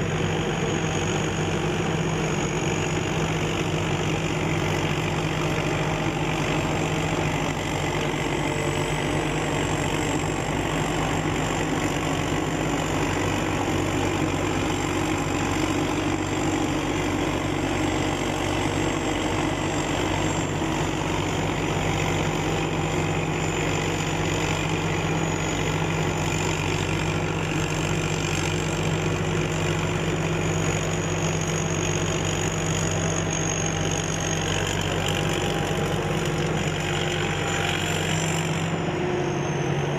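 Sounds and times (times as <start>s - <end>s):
combine harvester engine running: 0.0s - 39.9s
thin high whine: 0.0s - 39.9s.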